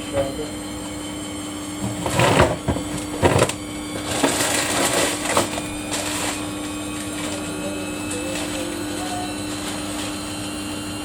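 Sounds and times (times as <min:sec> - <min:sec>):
washing machine humming: 0:00.0 - 0:11.0.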